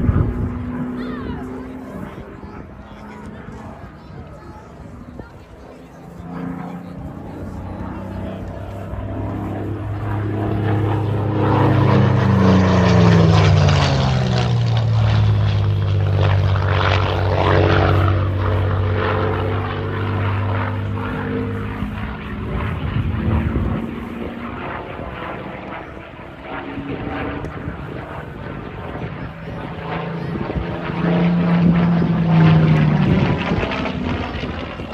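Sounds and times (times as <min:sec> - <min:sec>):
propeller aircraft flying past: 0:00.0 - 0:34.9.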